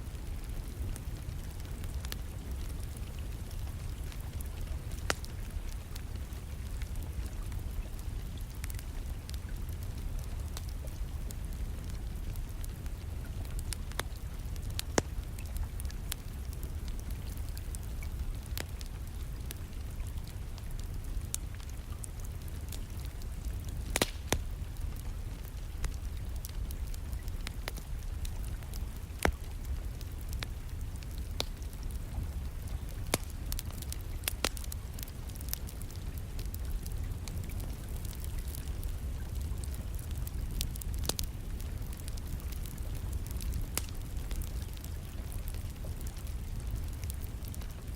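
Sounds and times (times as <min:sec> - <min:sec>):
wood fire crackling and popping: 0:00.1 - 0:47.9.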